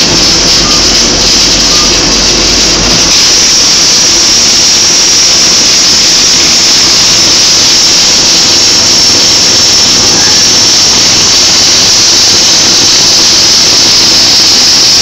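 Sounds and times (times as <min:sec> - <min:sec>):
welding arc hiss and crackle: 0:00.0 - 0:15.0.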